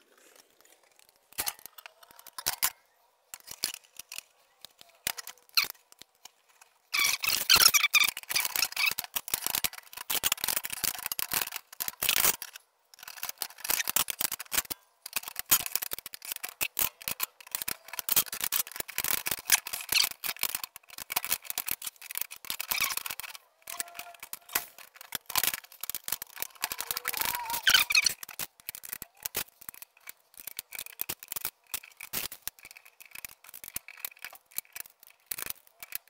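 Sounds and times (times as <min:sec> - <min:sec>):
rapid clicking and clattering of parts: 0:00.9 - 0:36.0.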